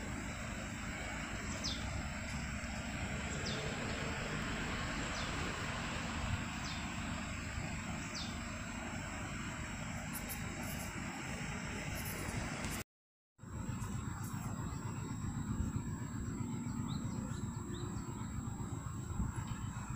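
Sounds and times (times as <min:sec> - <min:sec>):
outdoor rumble and hiss: 0:00.0 - 0:12.8, 0:13.4 - 0:19.9.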